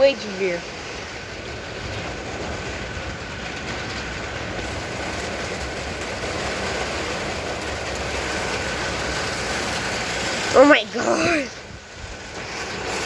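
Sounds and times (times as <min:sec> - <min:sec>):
heavy rain: 0:00.0 - 0:13.0
strong wind: 0:00.0 - 0:13.0.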